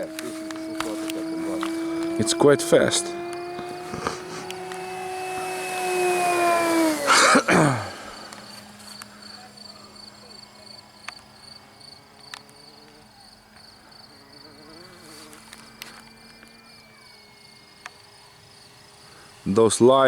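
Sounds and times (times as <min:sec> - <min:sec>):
crickets chirping: 0:00.0 - 0:20.0
model plane electric motor drone: 0:00.0 - 0:20.0.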